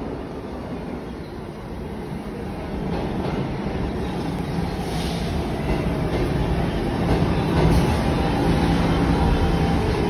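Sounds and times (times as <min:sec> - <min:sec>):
subway train wheels rumbling: 0:00.0 - 0:10.0.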